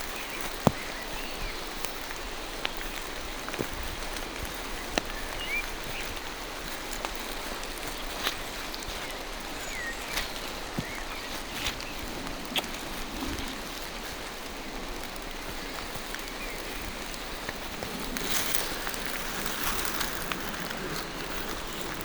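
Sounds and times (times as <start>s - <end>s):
rain falling through trees: 0.0s - 22.0s
raindrops ticking: 0.0s - 22.0s.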